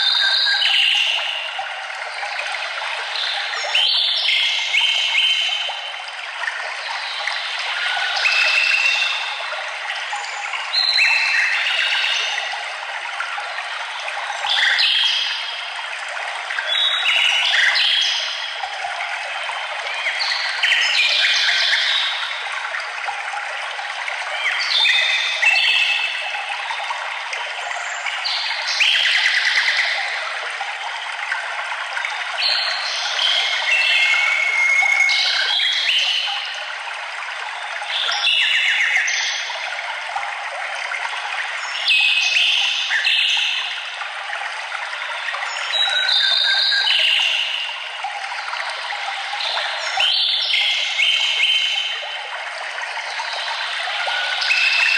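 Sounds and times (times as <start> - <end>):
running water rushing: 0.0 - 54.9.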